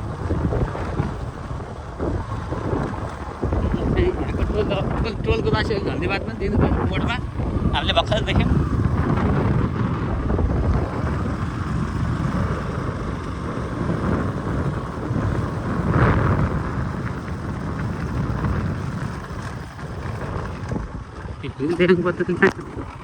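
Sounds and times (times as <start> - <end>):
vehicle rumbling on road: 0.0 - 23.0
wind on microphone: 0.0 - 23.0.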